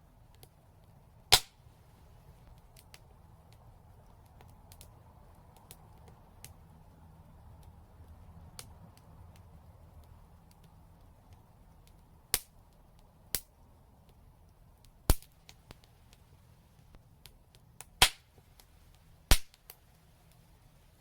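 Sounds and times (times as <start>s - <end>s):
fire crackling and popping: 0.0s - 21.0s
low steady rumble: 0.0s - 21.0s.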